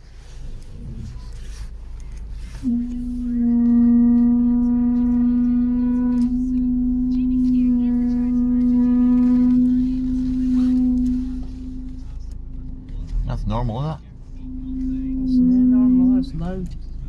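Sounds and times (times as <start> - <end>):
brakes moaning: 0.0 - 17.0.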